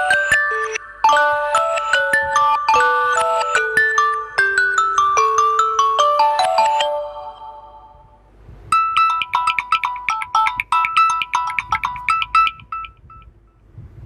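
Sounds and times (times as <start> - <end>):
phone ringtone melody: 0.0 - 13.6.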